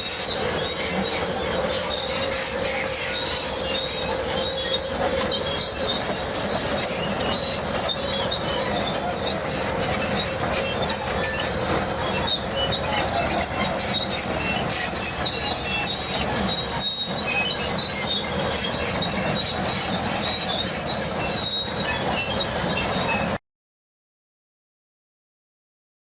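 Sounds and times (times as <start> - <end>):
bulldozer engine running: 0.0 - 23.4
bulldozer tracks squealing: 0.0 - 23.4.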